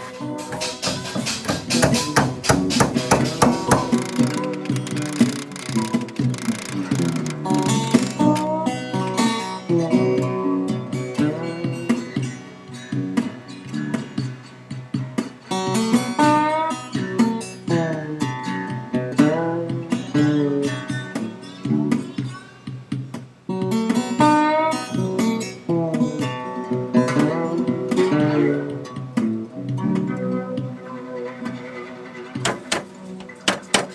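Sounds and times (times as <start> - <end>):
acoustic guitar picking: 0.0 - 33.9.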